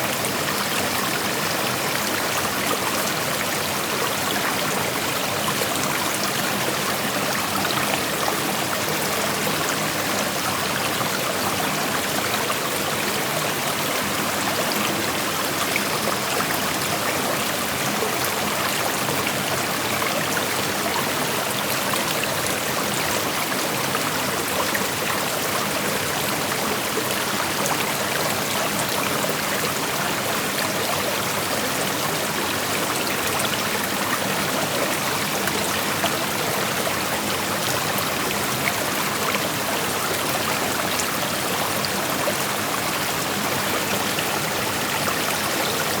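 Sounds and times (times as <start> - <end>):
creek water rushing over stones: 0.0 - 46.0.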